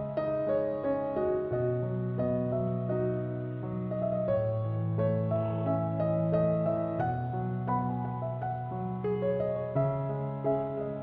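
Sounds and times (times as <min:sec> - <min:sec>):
slow keyboard melody: 0:00.0 - 0:11.0.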